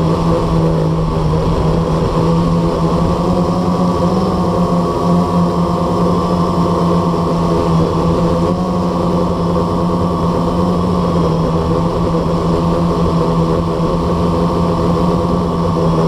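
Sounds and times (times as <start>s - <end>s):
quadcopter motors humming: 0.0s - 16.0s.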